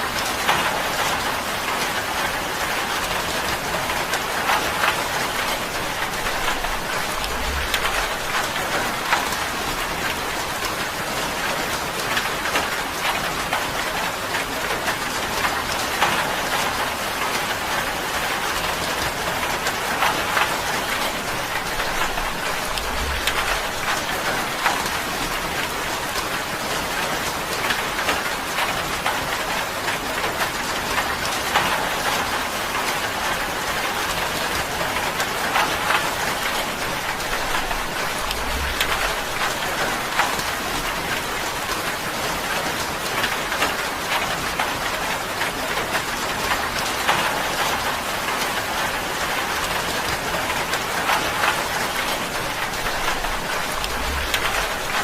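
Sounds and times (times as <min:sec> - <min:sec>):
rain on a tin roof: 0:00.0 - 0:55.0.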